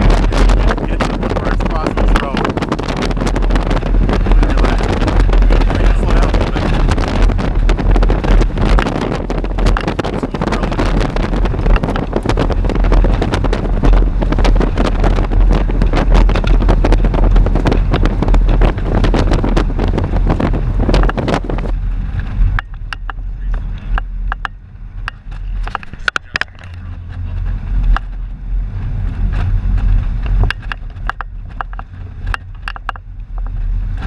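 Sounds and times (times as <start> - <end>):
gusty wind buffeting microphone: 0.0 - 34.0.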